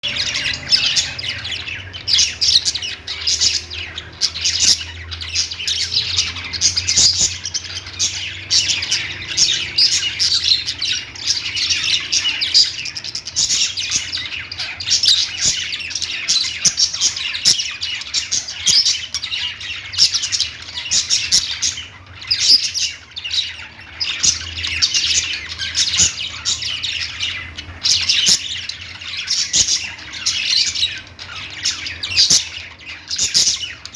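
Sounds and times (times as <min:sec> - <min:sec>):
parrots chirping and squawking: 0:00.0 - 0:33.9.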